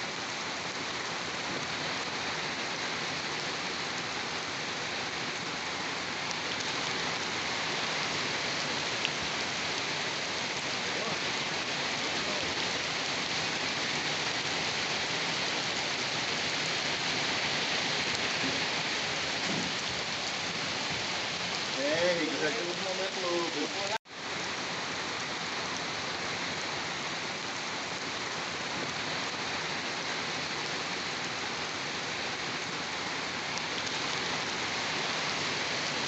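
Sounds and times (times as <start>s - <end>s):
steady rain hissing: 0.0s - 36.0s.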